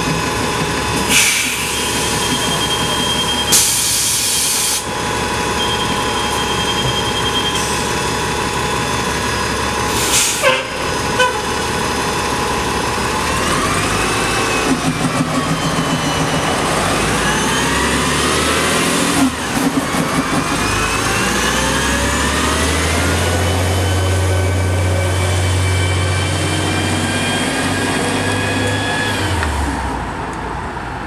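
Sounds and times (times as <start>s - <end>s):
bus engine whine accelerating: 0.0s - 30.7s.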